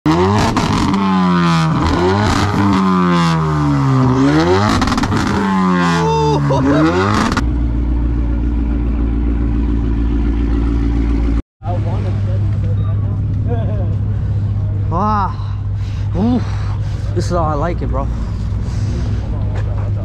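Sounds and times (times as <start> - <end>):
car engine revving: 0.1 - 20.0
steady engine drone: 0.1 - 20.0.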